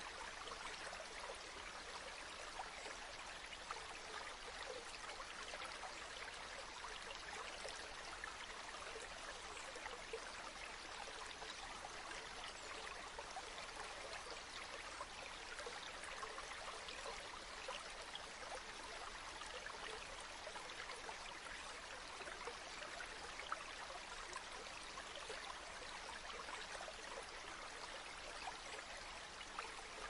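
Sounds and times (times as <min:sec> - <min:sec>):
stream water babbling: 0:00.0 - 0:30.0.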